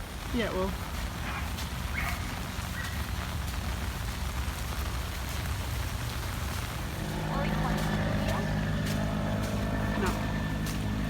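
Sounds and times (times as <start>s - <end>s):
floodwater rushing: 1.8s - 11.0s.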